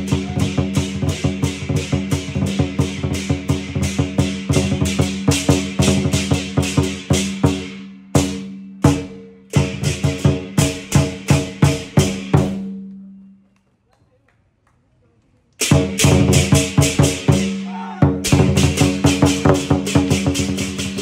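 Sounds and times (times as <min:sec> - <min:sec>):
cymbals clashing: 0:00.0 - 0:12.8, 0:15.6 - 0:21.0
drum beating: 0:00.0 - 0:12.8, 0:15.6 - 0:21.0.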